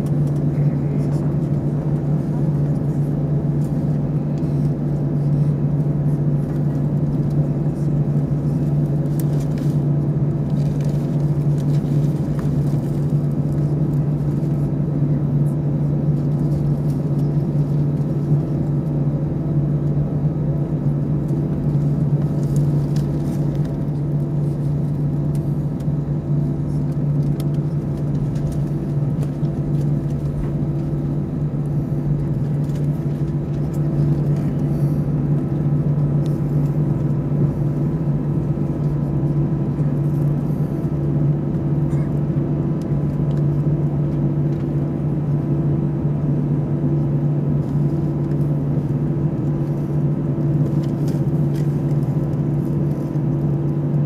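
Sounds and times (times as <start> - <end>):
jet engines idling in cabin: 0.0 - 54.0.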